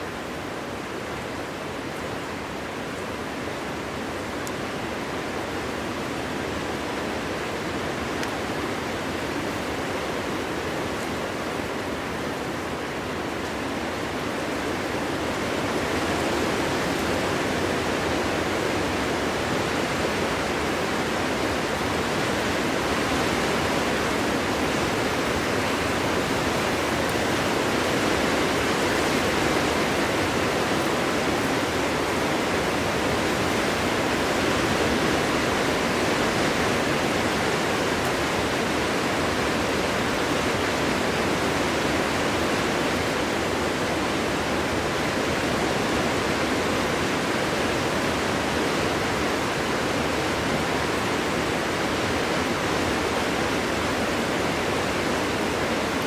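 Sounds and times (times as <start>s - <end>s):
wind rushing through forest: 0.0s - 56.0s.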